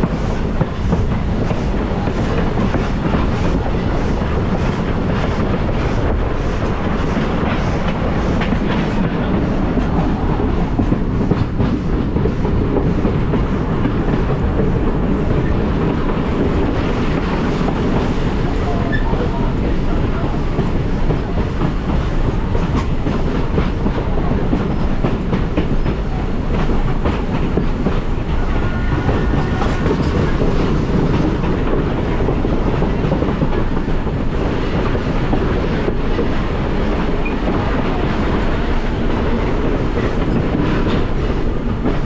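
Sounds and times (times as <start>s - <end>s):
train rumbling along track: 0.0s - 42.0s
wheels clacking over rail joints: 0.0s - 42.0s.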